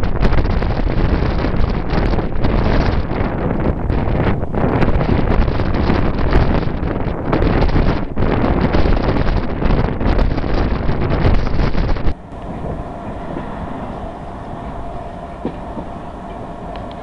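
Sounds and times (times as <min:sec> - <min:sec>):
faint steady hum: 0:00.0 - 0:17.0
train rumble inside carriage: 0:00.0 - 0:17.0
wind rushing over microphone: 0:00.0 - 0:17.0.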